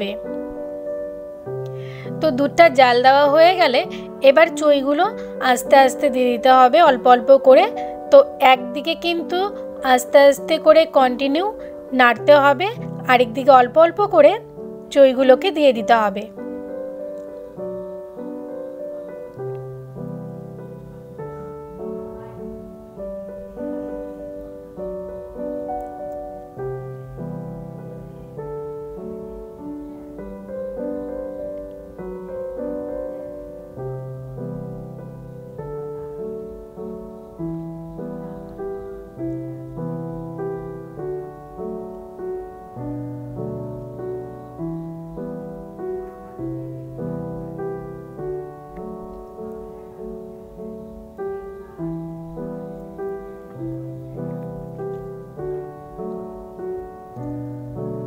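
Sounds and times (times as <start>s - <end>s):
slow piano music: 0.0s - 58.0s.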